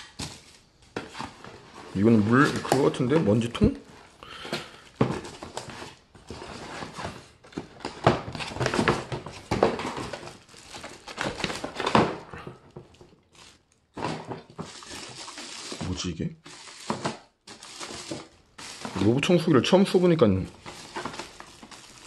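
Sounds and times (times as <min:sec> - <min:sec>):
plastic parts knocking and scraping: 0:00.0 - 0:19.5, 0:20.5 - 0:22.0
packaging rustling and crinkling: 0:00.0 - 0:22.0.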